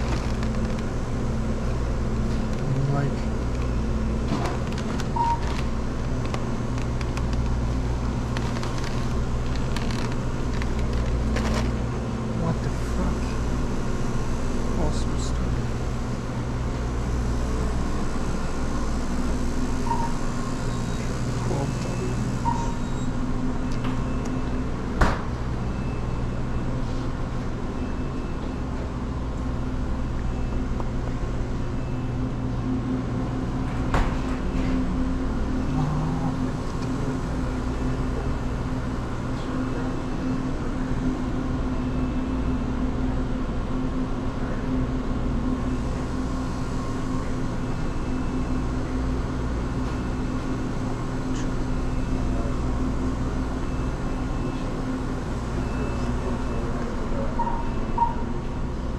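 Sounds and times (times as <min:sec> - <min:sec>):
low machine hum: 0:00.0 - 0:58.9.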